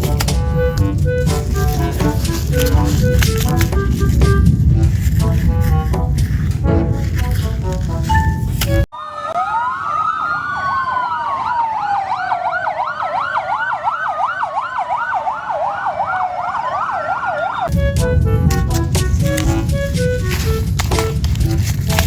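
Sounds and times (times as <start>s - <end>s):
emergency vehicle siren wailing: 0.0s - 5.5s, 8.9s - 21.4s.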